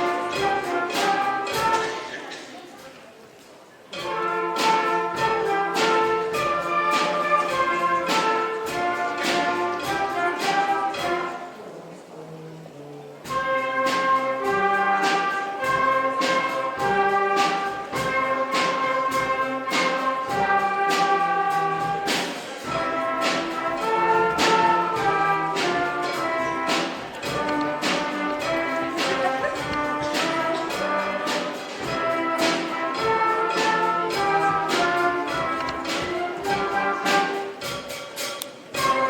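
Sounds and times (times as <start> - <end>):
brass: 0.0 - 2.4, 3.9 - 39.0
drum strikes: 0.0 - 2.5, 3.9 - 11.6, 13.2 - 39.0
orchestra playing brisk piece: 0.0 - 39.0.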